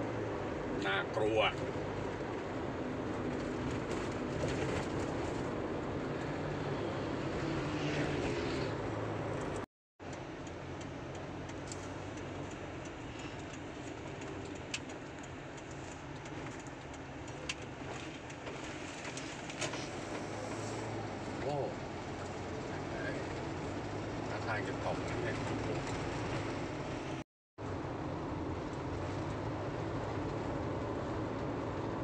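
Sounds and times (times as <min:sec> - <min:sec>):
car engine and road noise: 0:00.0 - 0:32.0
outdoor traffic hum: 0:00.0 - 0:32.0.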